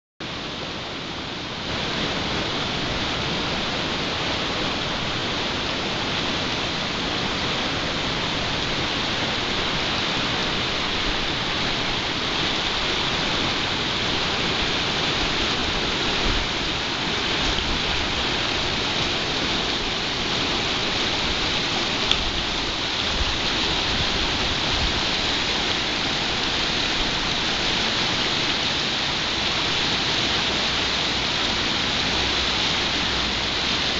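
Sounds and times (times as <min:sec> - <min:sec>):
river rushing over stones: 0:00.2 - 0:33.9.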